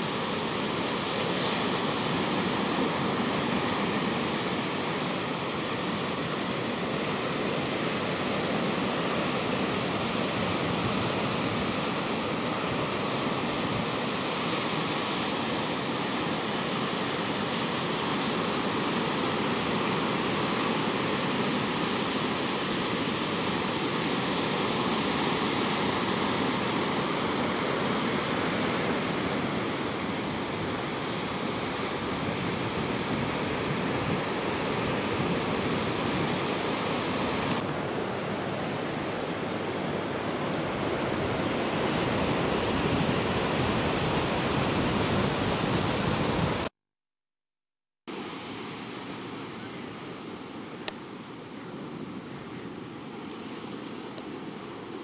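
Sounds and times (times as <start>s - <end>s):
surf breaking on a beach: 0.0s - 46.7s, 48.1s - 55.0s
wind: 0.0s - 46.7s, 48.1s - 55.0s.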